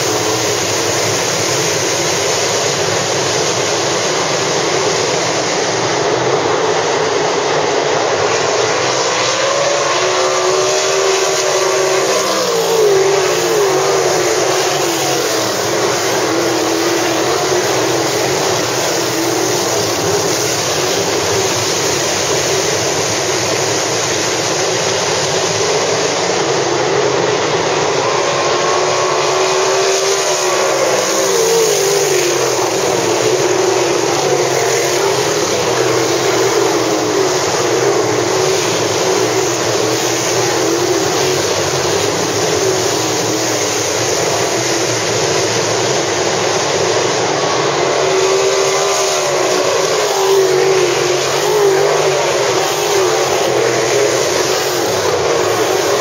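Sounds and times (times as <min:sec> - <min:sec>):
race car engines at full throttle: 0:00.0 - 0:56.0.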